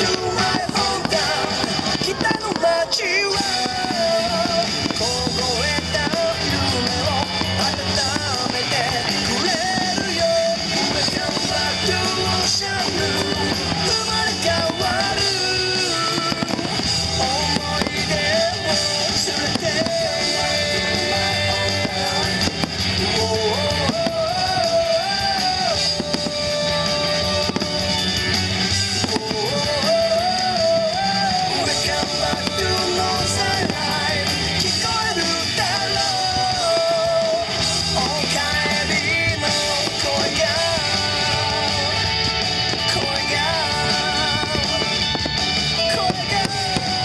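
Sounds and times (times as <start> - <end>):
fireworks bursting and crackling: 0.0 - 47.0
rock song with singing: 0.0 - 47.0.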